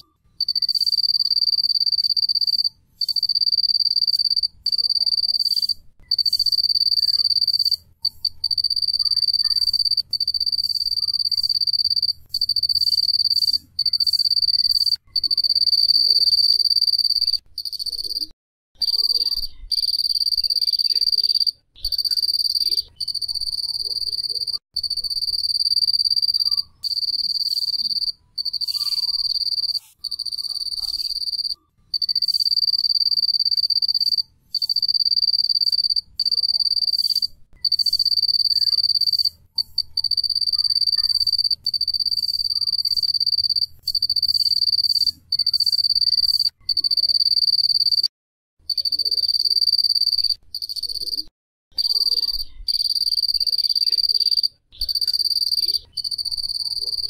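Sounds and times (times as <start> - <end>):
cricket trilling: 0.0 - 48.1, 48.7 - 57.0.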